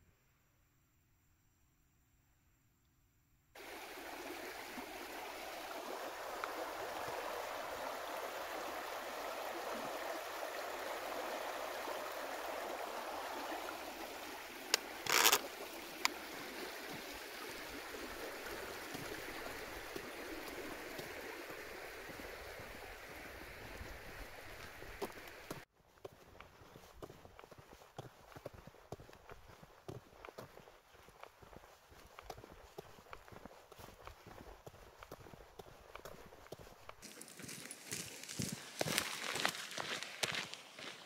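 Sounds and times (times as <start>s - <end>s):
stream rushing over stones: 3.6s - 25.7s, 27.4s - 41.0s.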